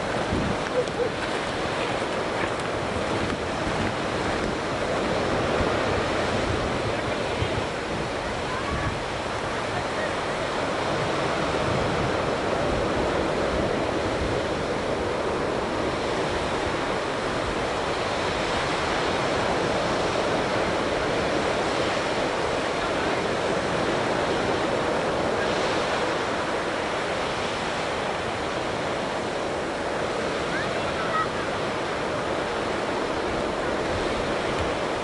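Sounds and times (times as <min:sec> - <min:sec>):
surf breaking on a beach: 0:00.0 - 0:35.0
wind buffeting the microphone: 0:00.0 - 0:35.0.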